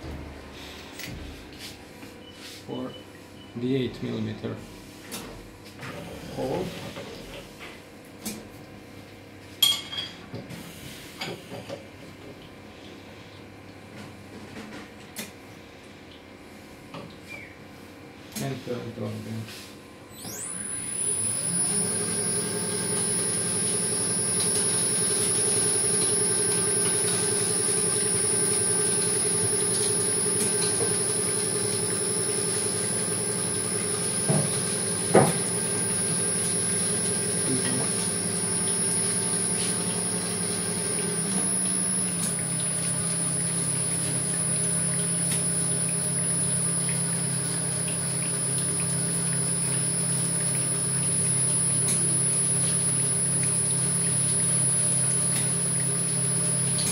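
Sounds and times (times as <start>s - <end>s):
oil press humming with high whine: 0.0s - 56.9s.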